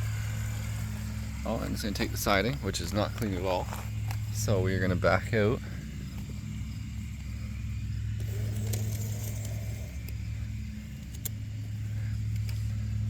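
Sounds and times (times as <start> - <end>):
toy train motor humming: 0.0 - 13.0.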